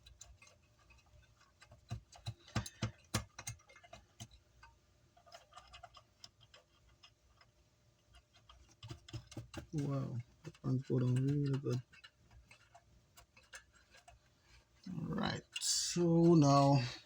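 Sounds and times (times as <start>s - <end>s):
hardware clicks and taps: 0.0s - 17.0s.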